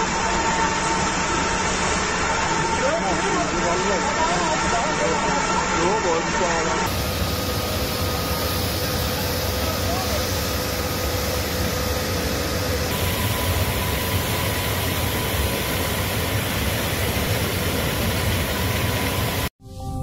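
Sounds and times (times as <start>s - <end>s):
high-pressure water hoses roaring: 0.0s - 19.5s
faint steady whine: 0.0s - 20.0s.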